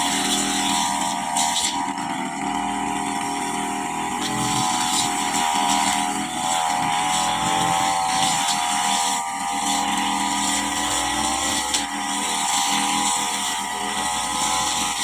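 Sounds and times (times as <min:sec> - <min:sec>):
brush cutter engine cutting grass: 0:00.0 - 0:15.0.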